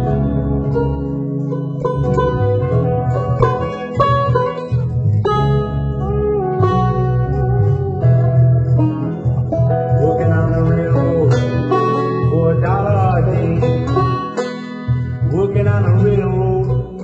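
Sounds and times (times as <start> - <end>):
banjo picking: 0.0 - 17.0
low bass line: 0.0 - 17.0.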